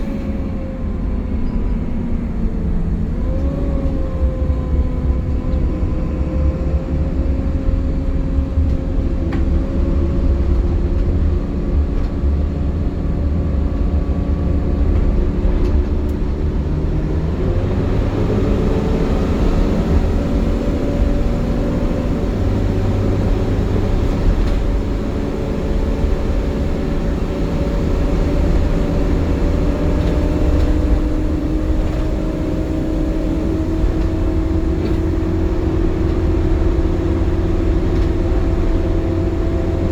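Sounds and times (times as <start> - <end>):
bus engine whining drone: 0.0 - 39.9.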